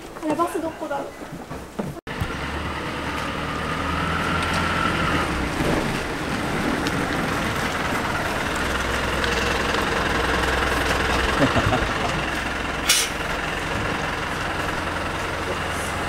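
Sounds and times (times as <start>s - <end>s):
bus engine idling: 2.1s - 16.0s.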